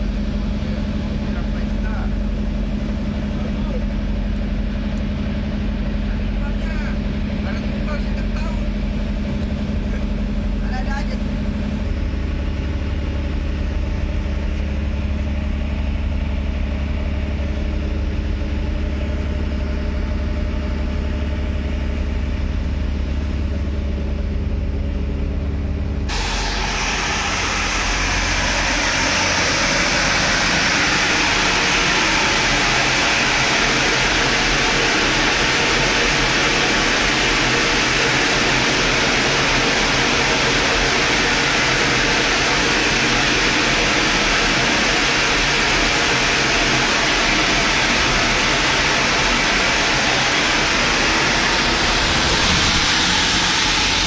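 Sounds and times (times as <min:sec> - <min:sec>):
loud rushing blower noise: 0:00.0 - 0:54.0
low engine-like hum: 0:00.0 - 0:54.0.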